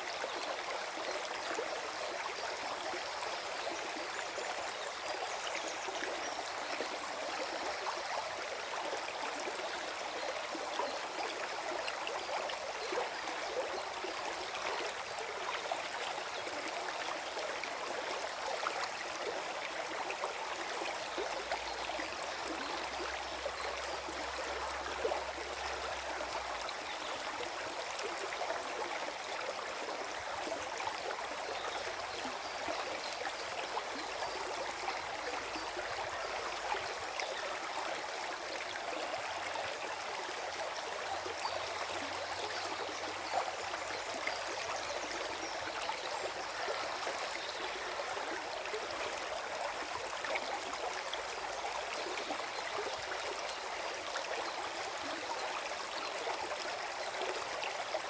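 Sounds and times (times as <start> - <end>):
stream gurgling over stones: 0.0 - 58.0.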